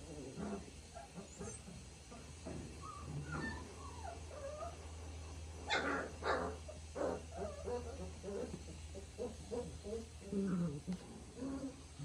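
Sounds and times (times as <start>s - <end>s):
puppies whining: 0.9s - 4.9s, 5.7s - 12.0s.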